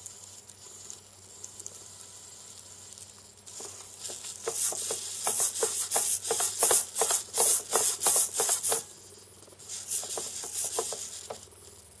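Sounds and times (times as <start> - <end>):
servo motor buzzing whir: 0.0 - 8.9, 9.7 - 11.5.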